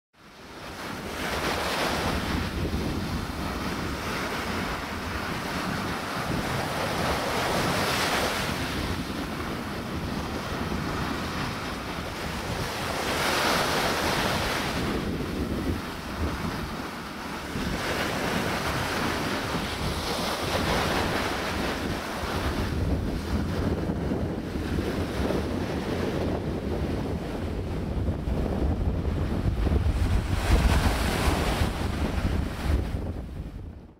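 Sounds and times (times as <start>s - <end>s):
small waves breaking on beach: 0.2s - 33.2s
wind buffeting microphone: 0.3s - 33.9s.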